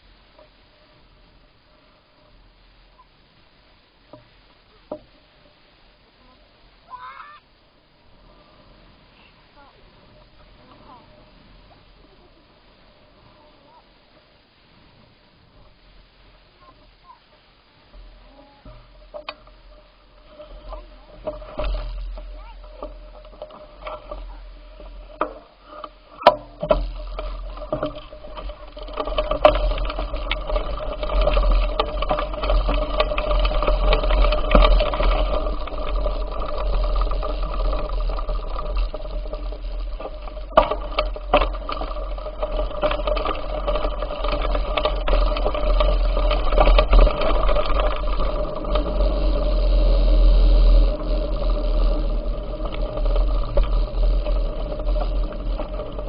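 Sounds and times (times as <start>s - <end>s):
bicycle rolling and whirring: 0.0s - 56.0s.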